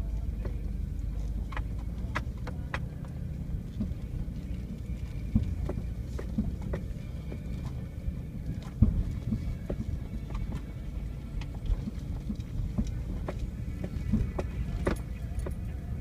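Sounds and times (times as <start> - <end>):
engine and tyres rumbling: 0.0 - 16.0
vehicle knocks and rattles: 0.0 - 16.0.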